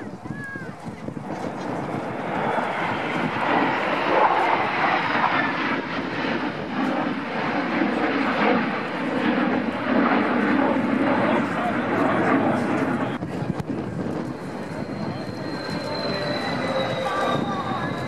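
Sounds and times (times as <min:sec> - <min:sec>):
fighter jets flying past: 0:00.0 - 0:18.0.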